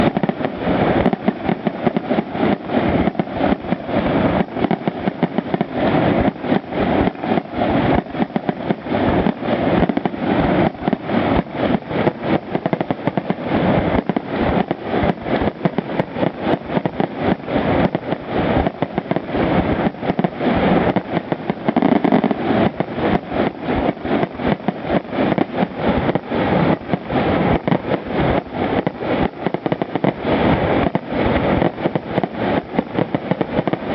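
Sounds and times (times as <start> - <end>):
fireworks bangs and booms: 0.0 - 33.9.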